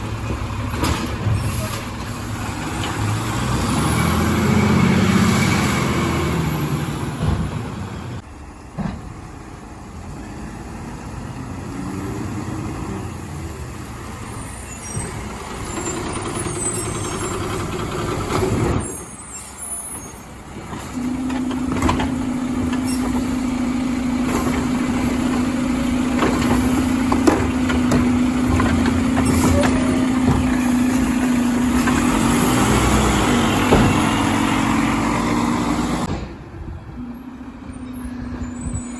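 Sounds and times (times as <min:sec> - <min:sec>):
garbage truck engine drone: 0:00.0 - 0:38.9.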